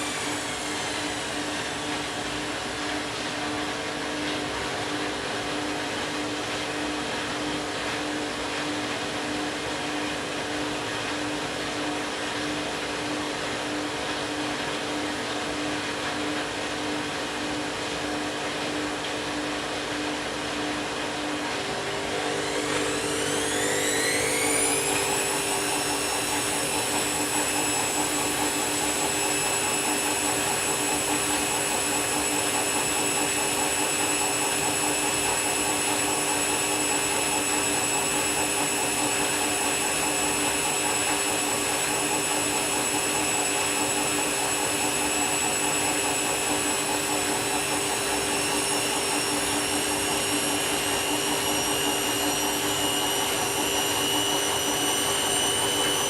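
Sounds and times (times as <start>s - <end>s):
washing machine spin whine: 0.0s - 56.0s.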